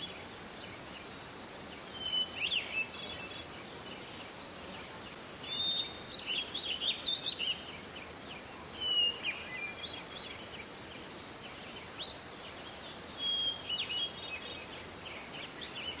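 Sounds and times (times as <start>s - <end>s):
songbirds chirping and whistling: 0.0s - 16.0s
steady background hiss: 0.0s - 16.0s.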